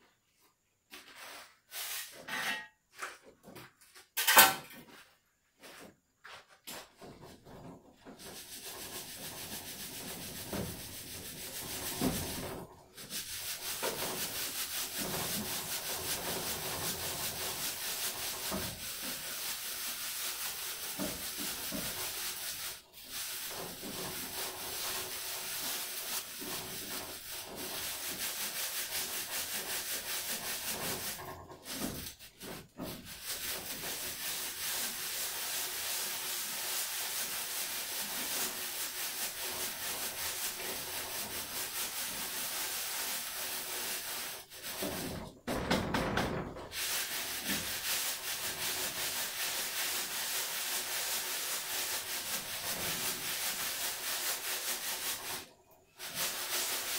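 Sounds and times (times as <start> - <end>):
sand rasping through a sieve: 0.8 - 2.4, 8.0 - 45.3, 46.4 - 56.9.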